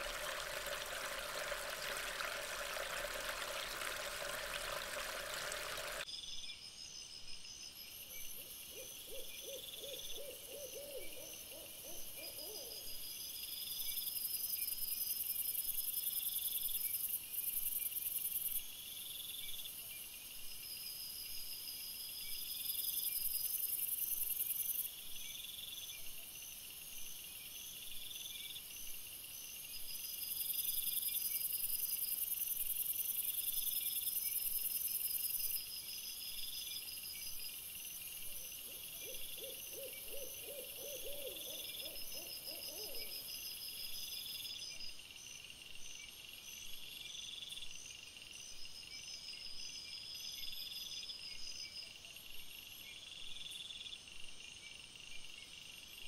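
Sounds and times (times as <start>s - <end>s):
crickets chirping: 0.0s - 56.0s
low rapidly pulsing insect call: 0.0s - 56.0s.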